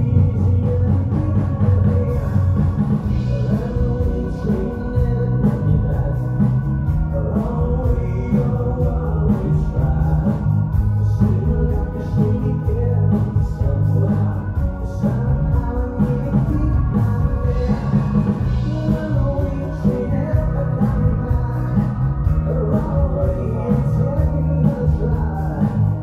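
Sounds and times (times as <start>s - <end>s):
bass: 0.0s - 26.0s
drums: 0.0s - 26.0s
electric guitar: 0.0s - 26.0s
keyboards: 0.0s - 26.0s
vocals singing: 0.0s - 26.0s.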